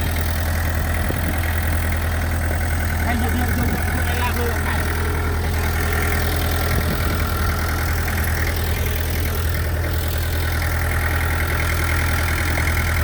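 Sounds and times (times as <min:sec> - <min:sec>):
heavy equipment engine idling: 0:00.0 - 0:13.0.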